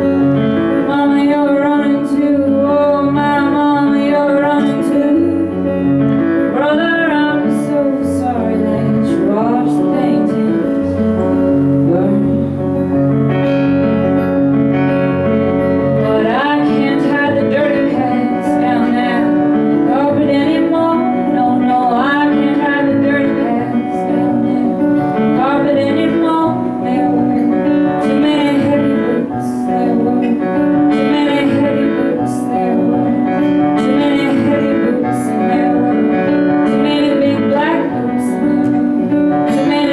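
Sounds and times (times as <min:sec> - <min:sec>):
woman singing: 0:00.0 - 0:14.2, 0:15.6 - 0:39.9
acoustic guitar: 0:00.0 - 0:39.9.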